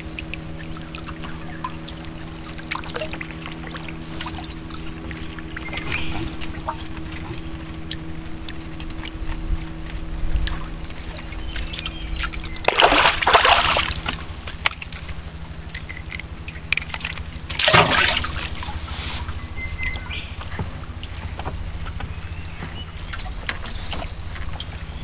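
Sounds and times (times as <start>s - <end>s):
steady low hum: 0.0s - 25.0s
water sloshing and splashing: 0.0s - 25.0s.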